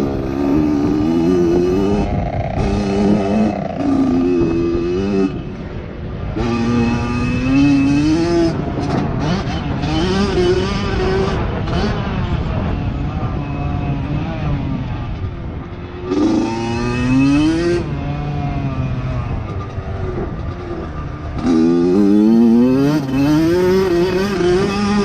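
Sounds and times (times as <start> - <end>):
dirt bike engine revving: 0.0 - 5.7, 6.3 - 25.0
low wind rumble: 0.0 - 25.0.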